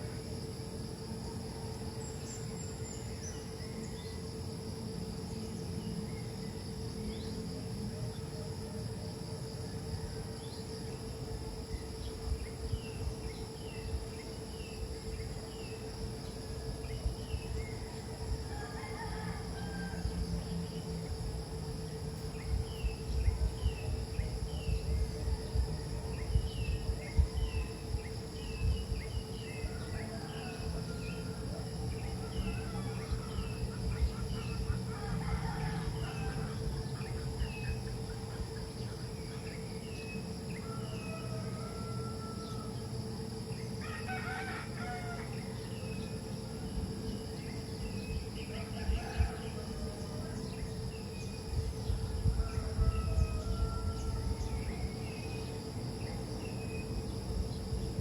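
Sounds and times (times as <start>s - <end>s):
crickets trilling: 0.0s - 58.0s
faint steady hum: 0.0s - 58.0s.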